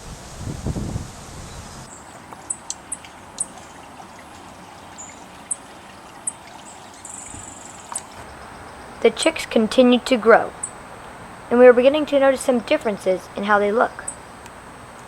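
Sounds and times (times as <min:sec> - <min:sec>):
trickle of running water: 0:00.2 - 0:15.0
small birds chipping: 0:01.3 - 0:15.0.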